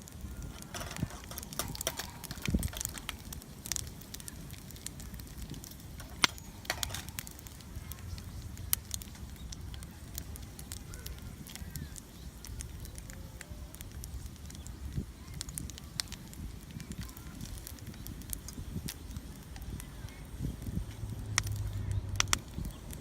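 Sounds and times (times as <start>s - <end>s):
sharp pops from fire: 0.0s - 23.0s
wood fire crackling: 0.0s - 23.0s.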